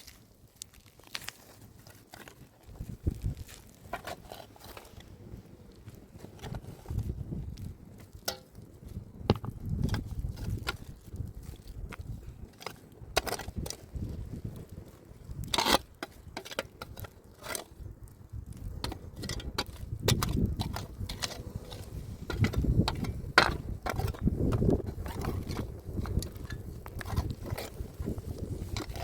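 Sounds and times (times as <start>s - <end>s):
stones knocking and scraping: 0.0s - 29.0s.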